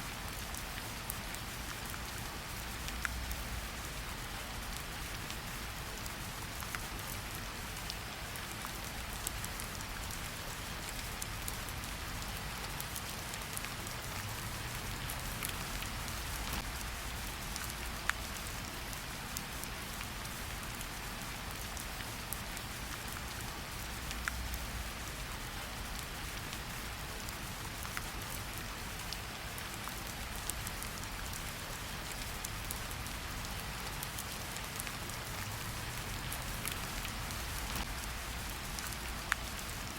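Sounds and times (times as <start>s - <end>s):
rain falling on leaves: 0.0s - 39.9s
raindrops ticking close by: 0.1s - 39.9s.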